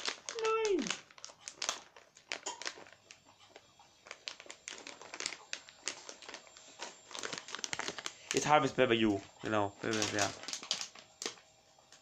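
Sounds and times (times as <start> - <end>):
plastic snack bag crinkling: 0.0 - 12.0.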